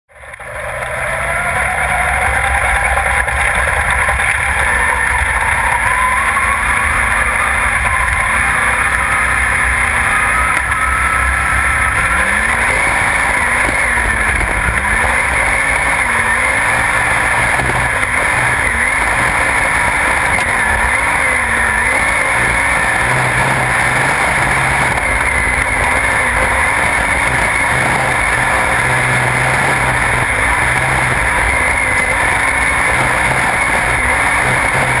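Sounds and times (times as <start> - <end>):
tyres on dirt track: 0.0 - 35.0
race car engine revving: 0.1 - 35.0.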